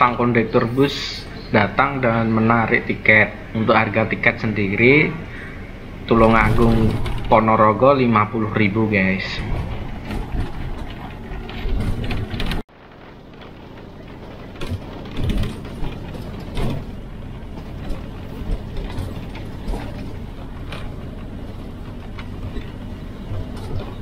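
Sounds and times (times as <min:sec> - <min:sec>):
bus engine and road noise: 0:00.0 - 0:24.0
rattles and clunks of bus body: 0:00.0 - 0:24.0.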